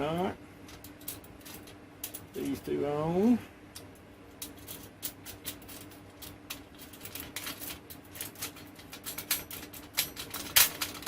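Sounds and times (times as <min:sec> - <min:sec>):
faint steady hum: 0:00.0 - 0:11.0
metal parts clinking: 0:00.1 - 0:02.8, 0:03.8 - 0:11.0.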